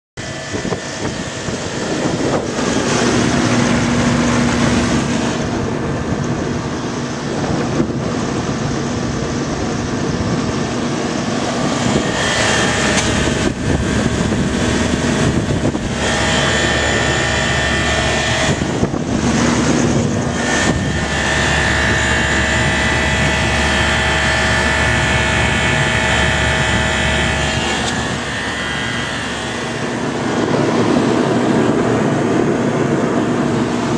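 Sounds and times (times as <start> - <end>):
air conditioning unit humming: 0.2 - 33.9
high-pitched whine: 0.2 - 33.9.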